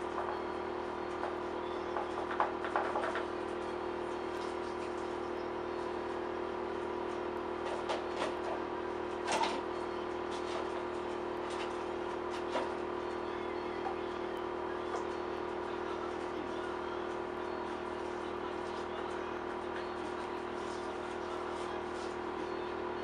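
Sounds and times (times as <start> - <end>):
workshop hum: 0.0 - 23.0.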